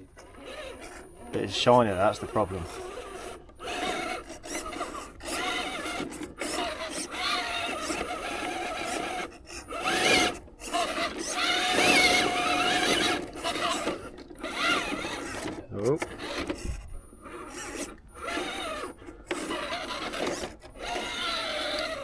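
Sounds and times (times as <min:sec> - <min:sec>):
toy car motor whining: 0:00.0 - 0:22.0.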